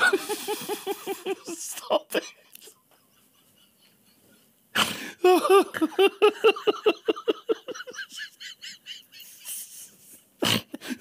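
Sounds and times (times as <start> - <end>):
man laughing: 0.0 - 4.5, 5.2 - 9.9.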